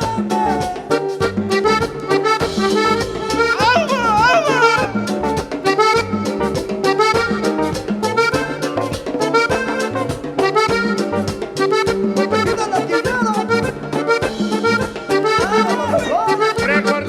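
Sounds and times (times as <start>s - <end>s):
latin dance band playing: 0.0s - 17.0s
lead instrument fast run: 0.0s - 17.0s
steady drum beat: 0.0s - 17.0s.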